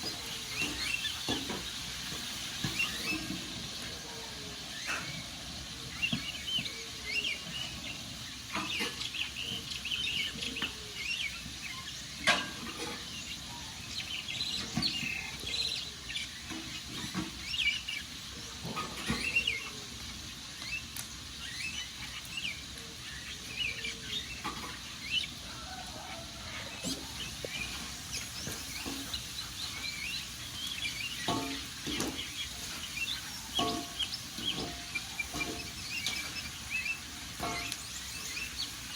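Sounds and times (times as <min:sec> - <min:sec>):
small birds chirping: 0:00.0 - 0:38.9
steady hiss: 0:00.0 - 0:38.9
wood fire crackling: 0:00.0 - 0:38.9.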